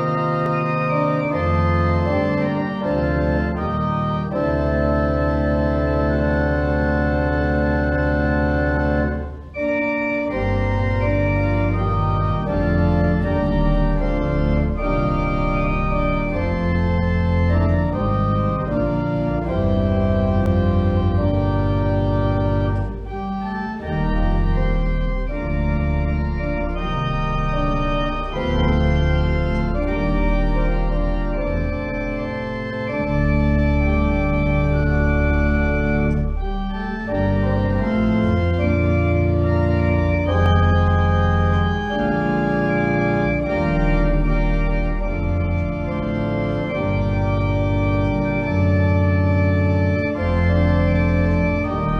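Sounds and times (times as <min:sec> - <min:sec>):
organ playing chords: 0:00.0 - 0:51.9.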